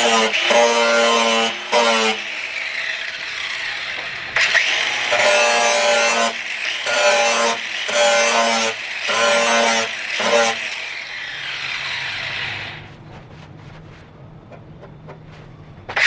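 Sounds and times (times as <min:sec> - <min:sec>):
angle grinder grinding steel: 0:00.0 - 0:12.9
angle grinder running without load: 0:00.0 - 0:12.9.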